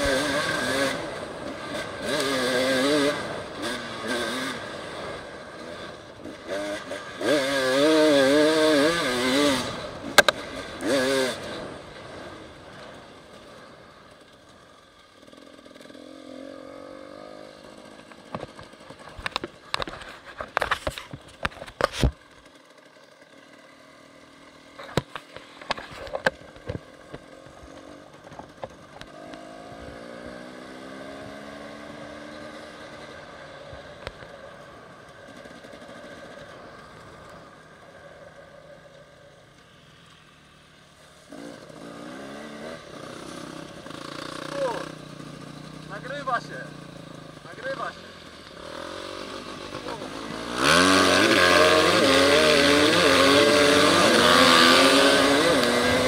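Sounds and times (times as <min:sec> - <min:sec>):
dirt bike engine revving: 0:00.0 - 0:38.8, 0:40.0 - 0:56.0.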